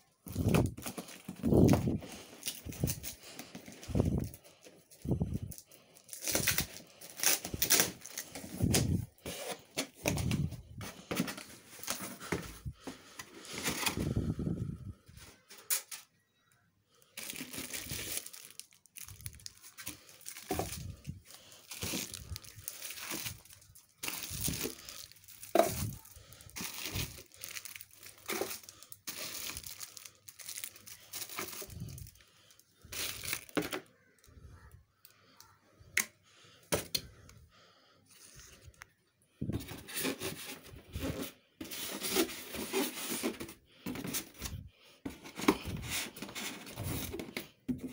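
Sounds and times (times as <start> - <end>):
plastic crinkling and rustling: 0.0 - 16.1, 17.2 - 34.8, 39.4 - 47.9.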